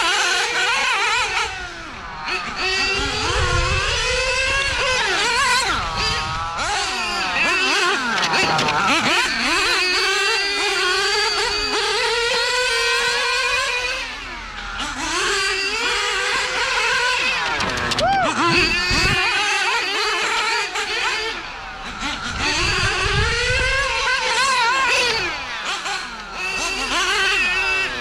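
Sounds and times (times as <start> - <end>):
rc car engines revving: 0.0 - 28.0.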